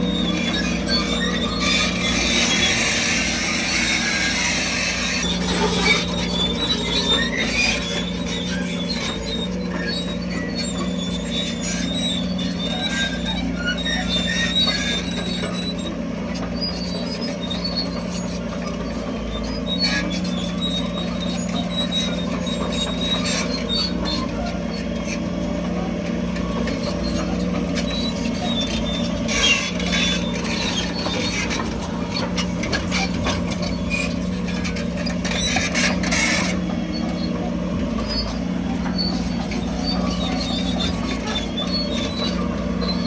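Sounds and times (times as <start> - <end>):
bulldozer diesel engine running: 0.0 - 43.0
crawler tracks squeaking and clanking: 0.0 - 43.0.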